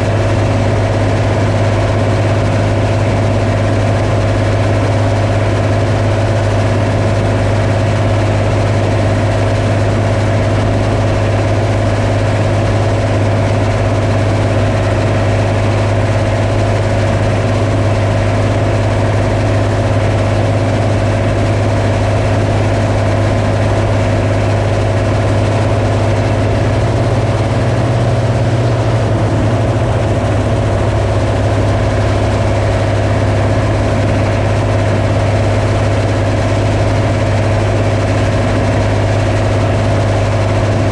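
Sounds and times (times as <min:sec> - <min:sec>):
farm machine engine drone: 0:00.0 - 0:40.9.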